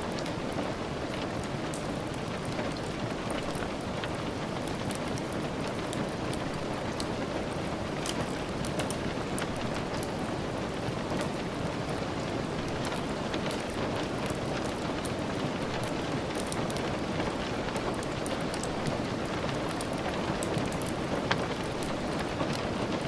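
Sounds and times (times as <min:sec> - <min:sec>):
steady rain hiss: 0:00.0 - 0:23.0
wood fire crackling: 0:00.0 - 0:23.0.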